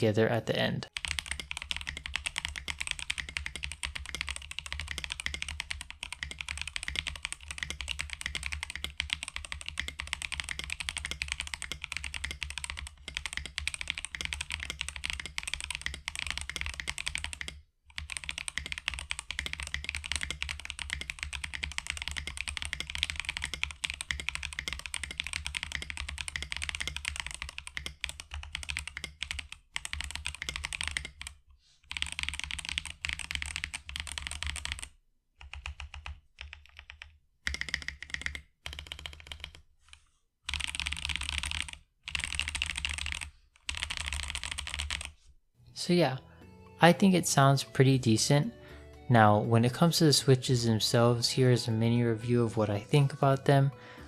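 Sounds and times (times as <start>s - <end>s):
fast typing on mechanical keyboard: 0.9s - 45.2s.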